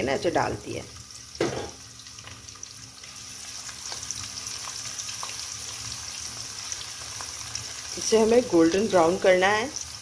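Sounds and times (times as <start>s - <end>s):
onions sizzling in ghee: 0.0s - 10.0s.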